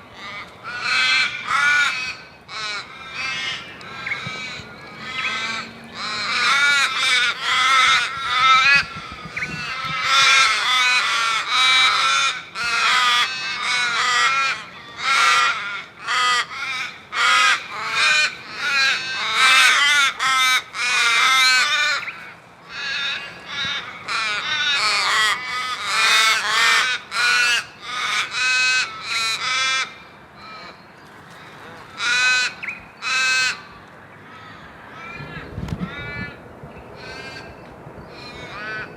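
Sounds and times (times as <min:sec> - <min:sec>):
crows cawing: 0:00.2 - 0:36.4, 0:37.0 - 0:37.6, 0:38.2 - 0:38.9.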